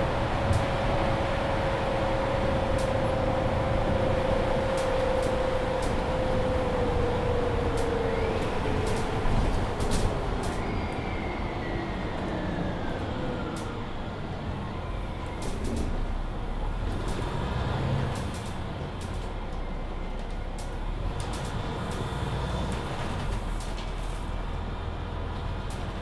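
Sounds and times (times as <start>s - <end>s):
bus engine and road rumble: 0.0s - 26.0s
rattles and clicks from bus body: 0.0s - 26.0s.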